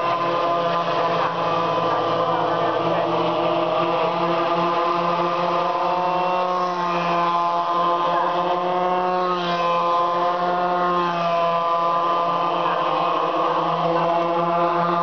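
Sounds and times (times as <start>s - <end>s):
small motorcycle engines droning: 0.0s - 15.0s.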